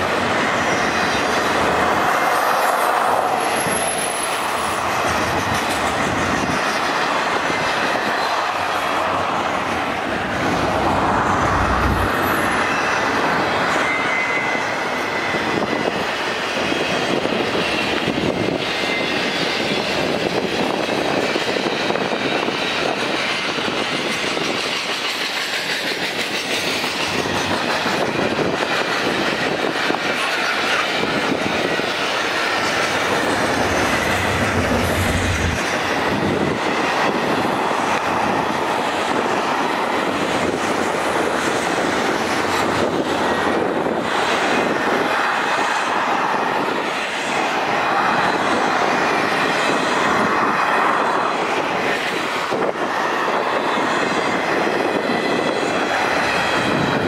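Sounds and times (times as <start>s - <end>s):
freight train rolling past: 0.0s - 57.0s
steel wheels clattering on rails: 0.0s - 57.0s.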